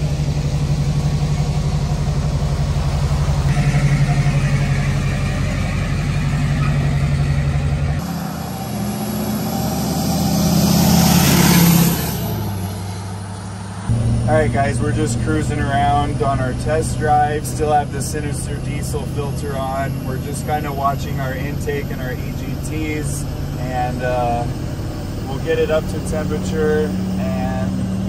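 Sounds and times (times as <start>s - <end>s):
diesel truck engine: 0.0s - 28.0s
truck driving past: 0.0s - 28.0s.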